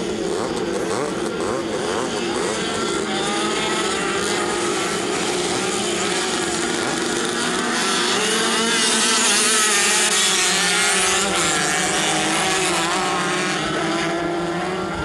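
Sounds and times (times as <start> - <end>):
racing motorcycles: 0.0 - 15.0.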